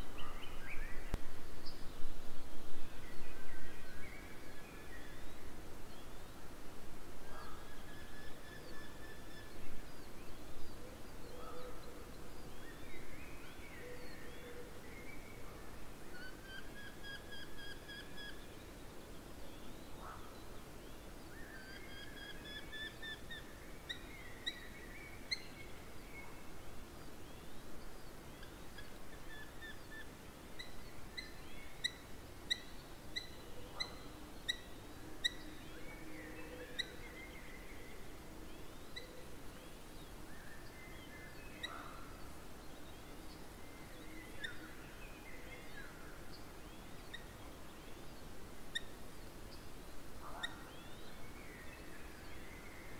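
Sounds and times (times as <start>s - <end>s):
faint outdoor background: 0.0s - 52.9s
songbirds singing: 0.0s - 52.9s.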